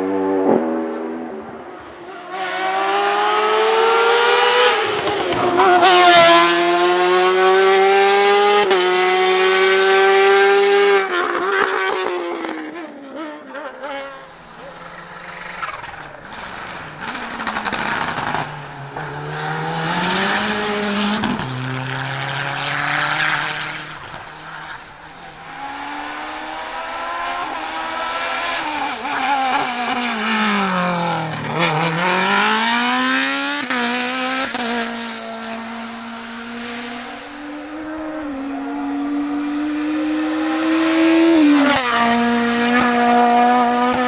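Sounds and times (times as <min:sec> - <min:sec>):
race car engine at high revs: 0:00.0 - 0:44.0.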